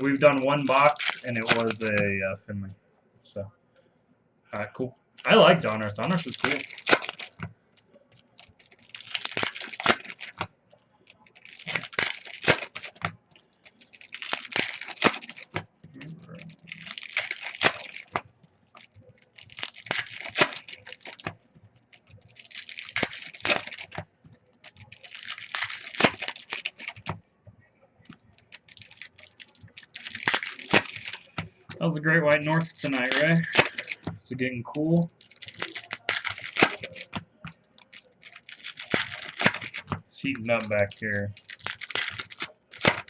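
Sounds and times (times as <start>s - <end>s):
trading cards rustling: 0.0s - 2.2s, 4.6s - 27.2s, 28.0s - 43.0s.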